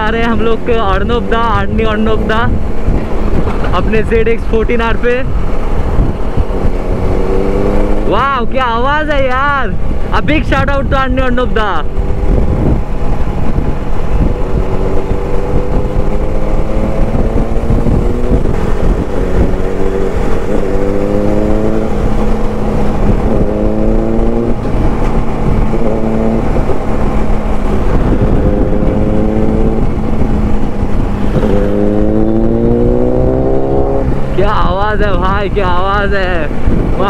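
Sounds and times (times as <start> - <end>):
wind rumble on microphone: 0.0 - 37.0
motorcycle engine accelerating: 4.7 - 10.1, 11.6 - 37.0.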